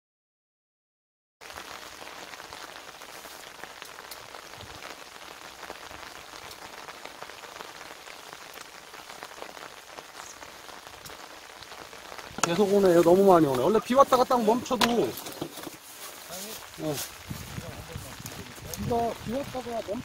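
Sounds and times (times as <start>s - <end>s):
heavy rain falling: 1.4s - 20.0s.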